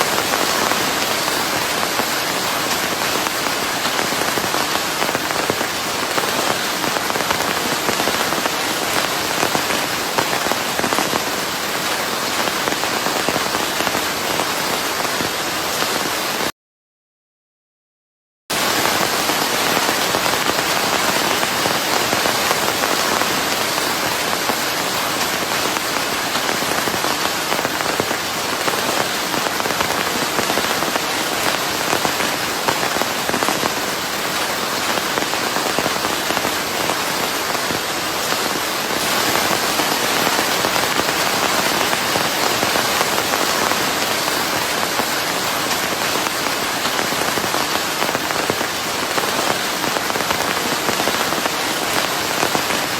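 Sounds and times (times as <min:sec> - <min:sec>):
rain falling: 0:00.0 - 0:16.5, 0:18.5 - 0:52.9.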